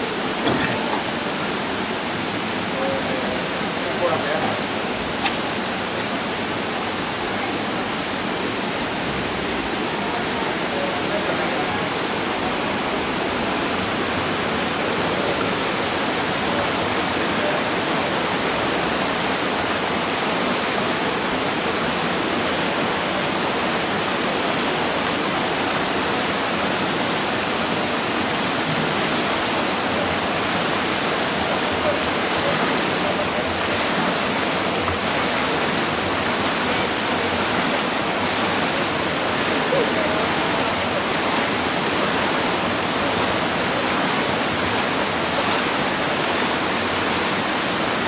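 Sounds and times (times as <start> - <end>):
water rushing: 0.0 - 48.0.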